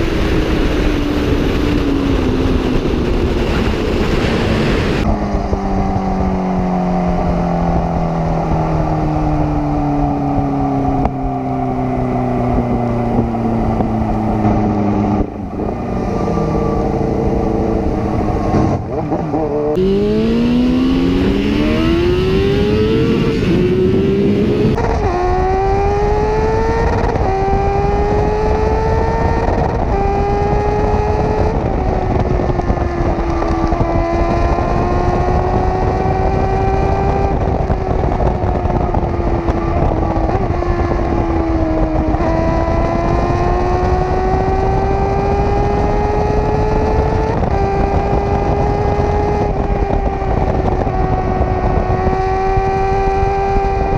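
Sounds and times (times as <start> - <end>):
motorcycle engine revving: 0.0 - 53.9
wind rush: 0.0 - 53.9.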